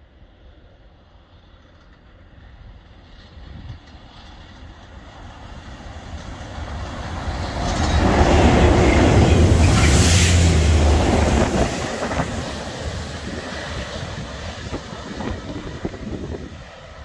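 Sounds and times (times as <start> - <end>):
diesel locomotive engine: 0.0 - 17.0
train wheels on rails: 1.0 - 16.8.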